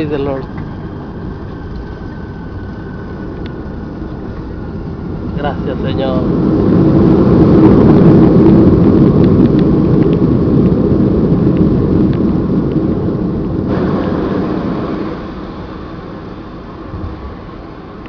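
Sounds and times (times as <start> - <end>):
jet cabin engine roar: 0.0 - 18.0.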